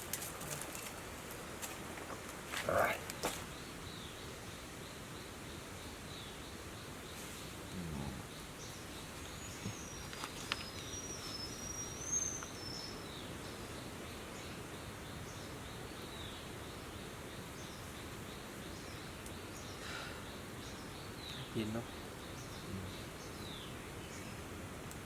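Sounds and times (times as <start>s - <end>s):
bird chirping: 2.7s - 24.5s.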